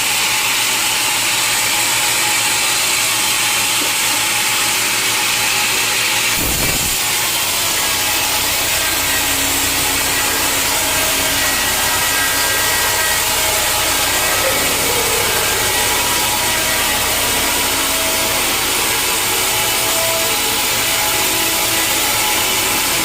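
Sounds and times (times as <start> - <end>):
saw cutting through a log: 0.0 - 23.0.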